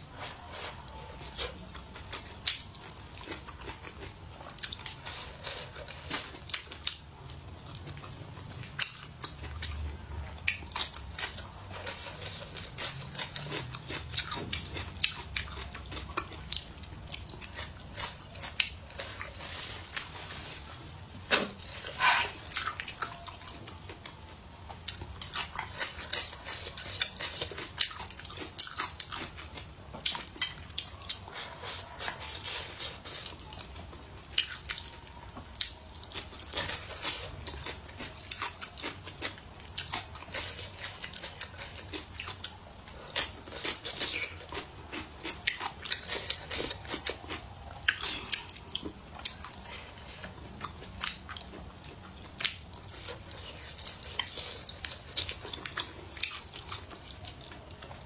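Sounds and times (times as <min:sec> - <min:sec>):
chewing and wet mouth sounds: 0:00.1 - 0:58.0.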